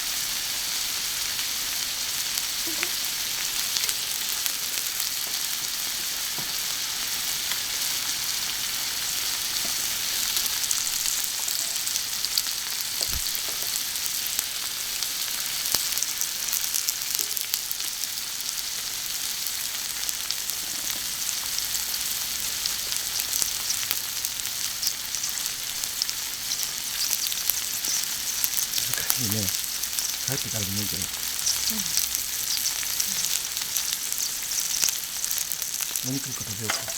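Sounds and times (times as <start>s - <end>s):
food sizzling on a griddle: 0.0s - 36.9s.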